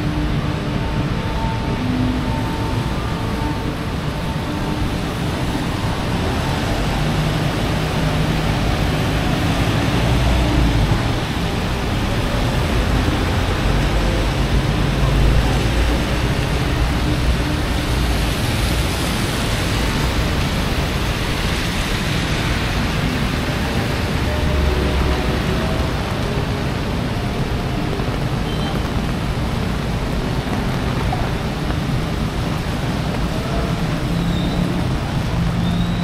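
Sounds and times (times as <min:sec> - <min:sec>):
cars driving on wet road: 0:00.0 - 0:36.0
heavy rain on street: 0:00.0 - 0:36.0.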